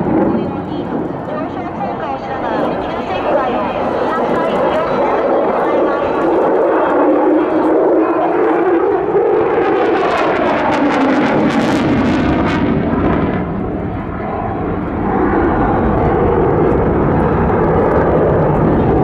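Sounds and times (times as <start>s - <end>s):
jet engine roaring: 0.0s - 19.0s.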